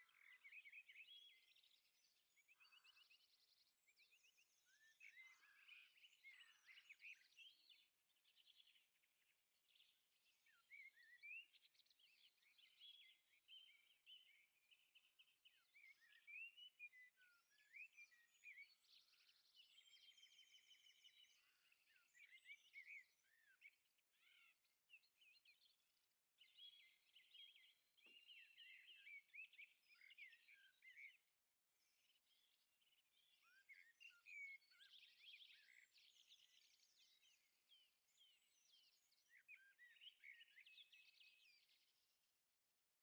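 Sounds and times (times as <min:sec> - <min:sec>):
small birds chirping and trilling: 0:00.0 - 0:43.0.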